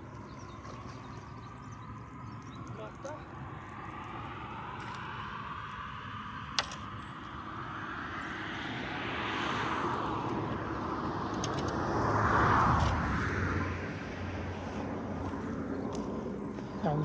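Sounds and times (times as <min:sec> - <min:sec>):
motor vehicle passing: 0:00.3 - 0:17.0.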